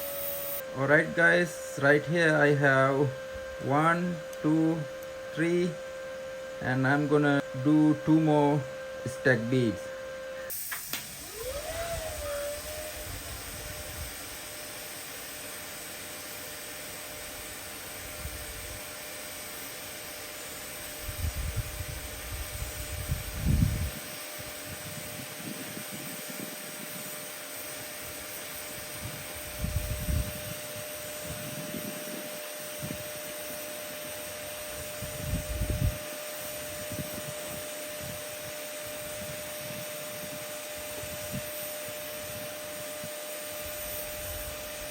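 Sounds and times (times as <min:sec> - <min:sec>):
welding arc hissing: 0:00.0 - 0:03.1, 0:10.4 - 0:44.9.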